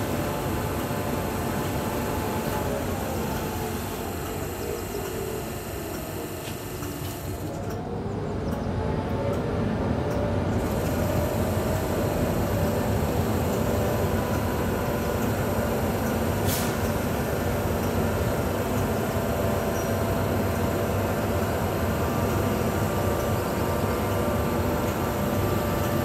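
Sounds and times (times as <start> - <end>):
locomotive machine hum and whirr: 0.0 - 26.0.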